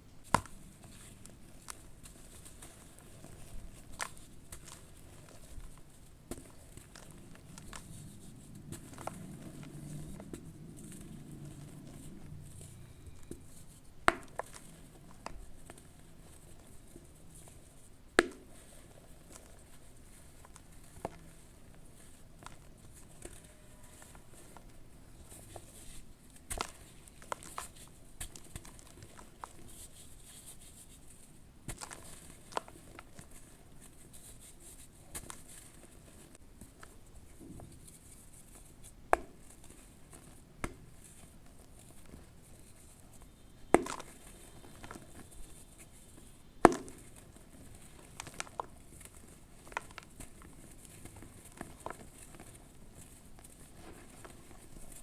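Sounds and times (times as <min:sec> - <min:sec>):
charcoal ash crumbling and crackling: 0:00.1 - 0:37.8, 0:38.4 - 0:55.0.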